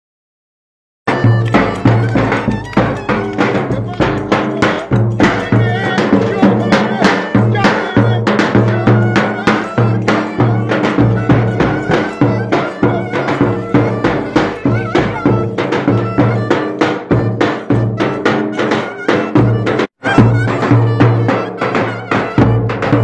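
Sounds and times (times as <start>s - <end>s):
driving drum beat: 1.1s - 23.0s
folk dance music: 1.1s - 23.0s
sustained melody line: 1.1s - 23.0s.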